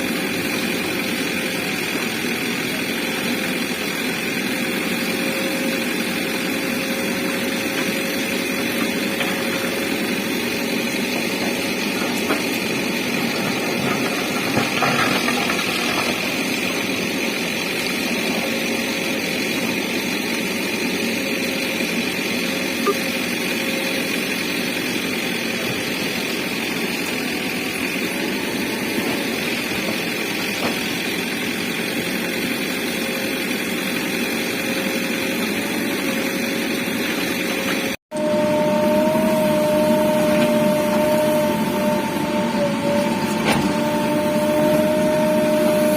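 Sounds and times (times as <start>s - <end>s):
backhoe diesel engine running: 0.0s - 45.9s.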